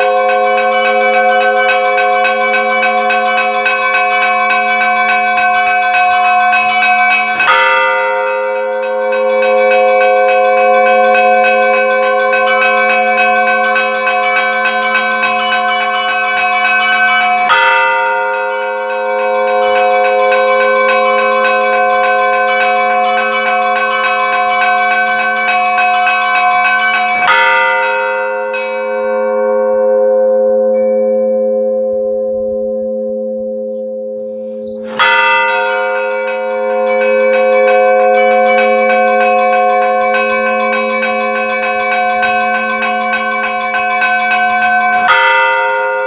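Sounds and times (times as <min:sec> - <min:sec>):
large church bell ringing: 0:00.0 - 0:46.0.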